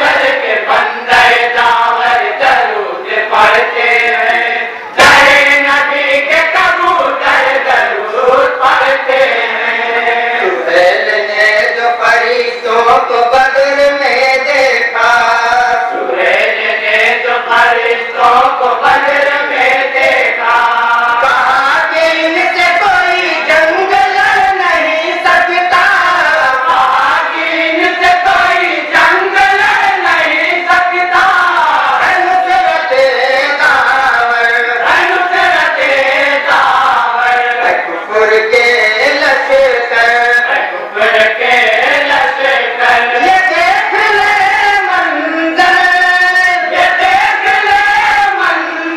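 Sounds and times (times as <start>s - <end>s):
men singing in unison: 0.0s - 48.9s.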